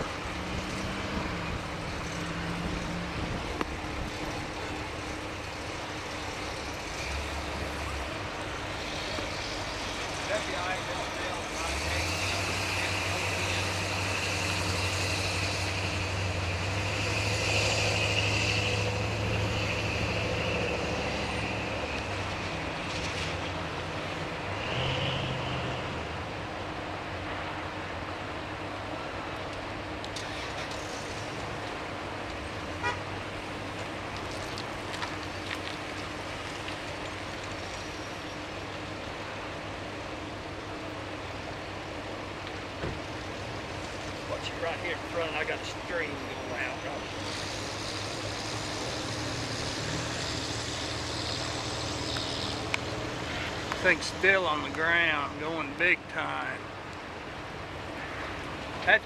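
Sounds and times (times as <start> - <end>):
background rushing noise: 0.0 - 59.0
motor vehicle engine humming: 0.0 - 59.0.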